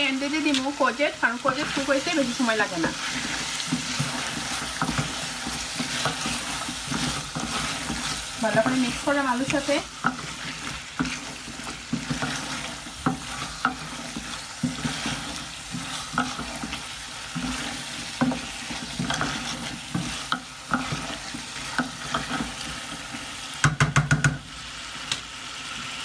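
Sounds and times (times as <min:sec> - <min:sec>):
food sizzling while frying: 0:00.0 - 0:26.0
wooden spoon scraping a metal pot: 0:01.4 - 0:23.3.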